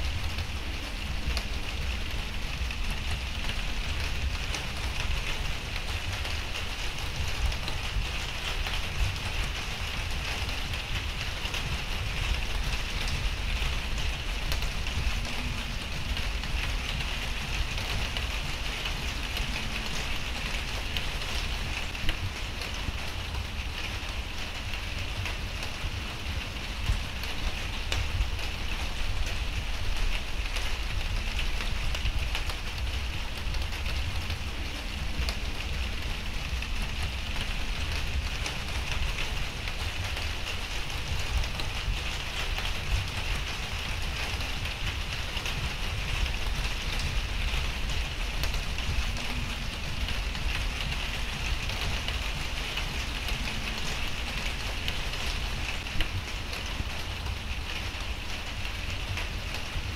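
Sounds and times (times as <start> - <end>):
low rumble: 0.0 - 59.9
rain hissing: 0.0 - 59.9.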